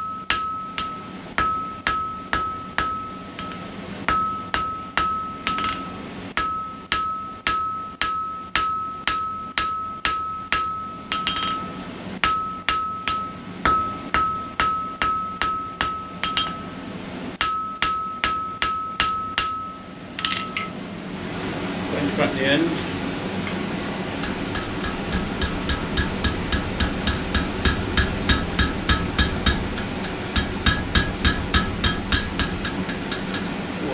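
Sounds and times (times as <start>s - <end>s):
hammer striking steel on anvil: 0.0s - 16.8s, 17.4s - 20.8s, 24.2s - 33.6s.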